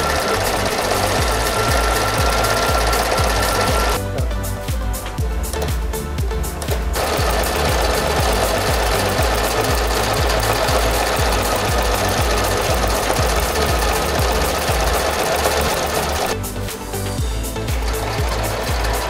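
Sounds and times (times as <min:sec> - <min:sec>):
sewing machine running: 0:00.0 - 0:04.1, 0:06.6 - 0:16.4, 0:17.2 - 0:19.0
background music with beat: 0:00.0 - 0:19.0.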